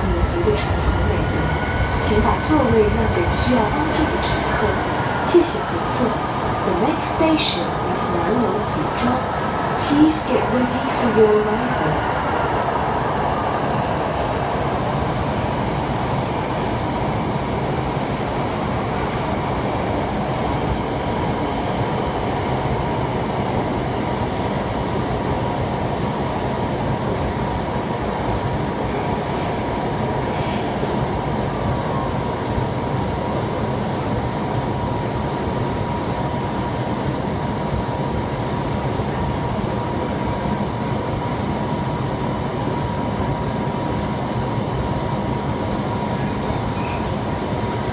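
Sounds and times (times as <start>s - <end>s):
constant train whine: 0.0s - 47.9s
train wheels rumbling on rail: 0.0s - 47.9s.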